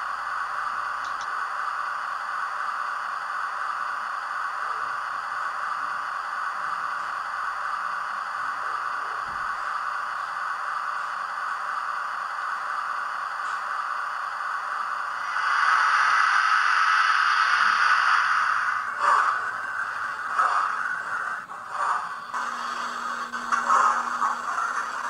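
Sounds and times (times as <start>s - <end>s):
model railway turntable running: 0.0s - 25.0s.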